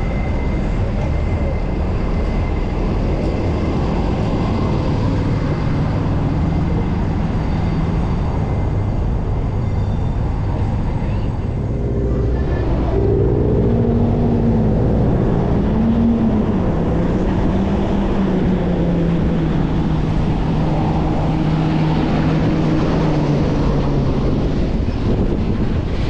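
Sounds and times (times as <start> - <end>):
vehicle engine hum: 0.0 - 26.0
wind rushing on microphone: 0.0 - 26.0.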